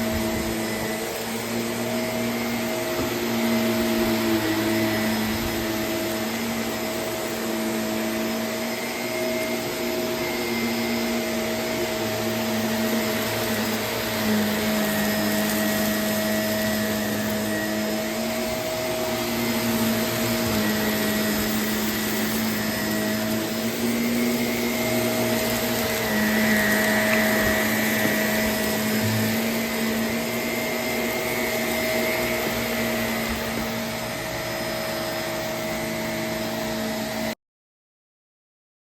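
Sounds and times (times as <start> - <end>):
vacuum cleaner running: 0.0 - 37.4.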